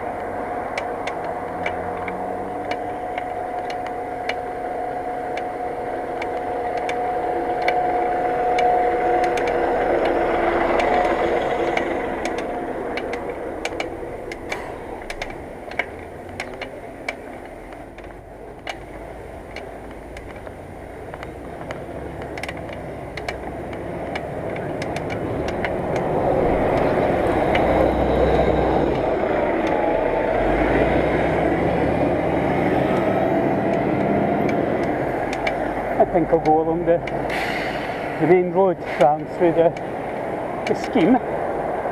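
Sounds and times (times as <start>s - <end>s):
rumbling road noise: 0.0s - 41.9s
traffic going by: 0.0s - 41.9s
vehicle engine: 0.0s - 41.9s
sharp clicks: 0.2s - 4.5s, 6.1s - 29.8s, 32.9s - 41.2s.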